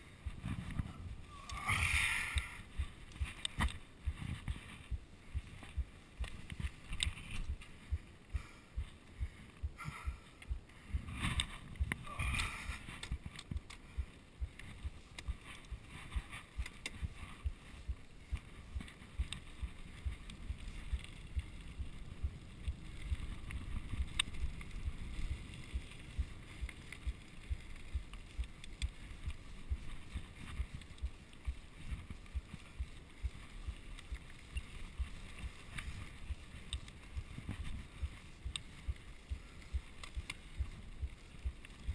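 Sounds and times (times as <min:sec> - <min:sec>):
tyres rumbling on dirt trail: 0:00.0 - 0:41.9.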